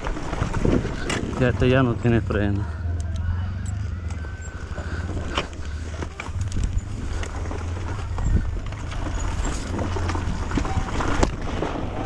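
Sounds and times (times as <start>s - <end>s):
dirt bike engine at low revs: 0.0s - 12.0s.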